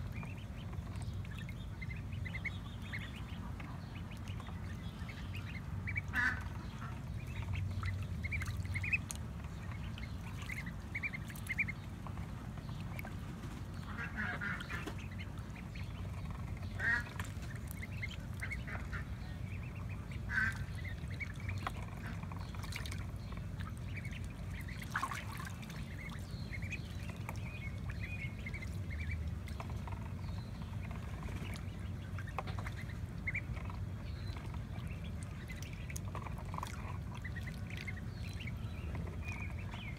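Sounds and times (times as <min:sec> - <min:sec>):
ducklings peeping: 0:00.0 - 0:39.9
ducklings splashing in water: 0:00.0 - 0:39.9.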